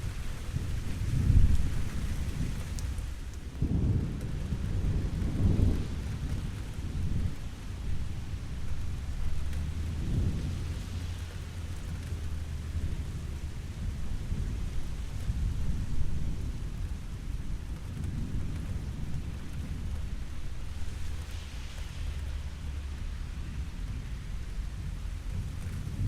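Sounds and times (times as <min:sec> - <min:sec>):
low rumble of thunder: 0:00.0 - 0:26.0
steady rain: 0:00.0 - 0:26.0.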